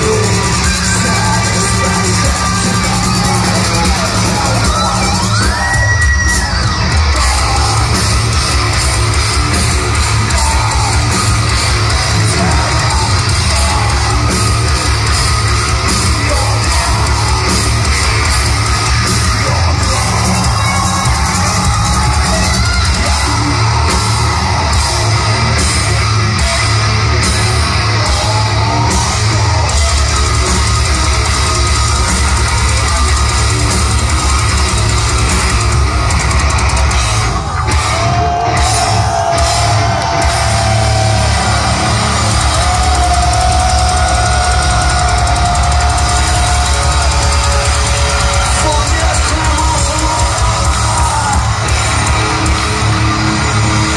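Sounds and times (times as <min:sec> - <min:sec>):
fast drum strokes: 0:00.0 - 0:53.9
heavy metal band playing live: 0:00.0 - 0:53.9.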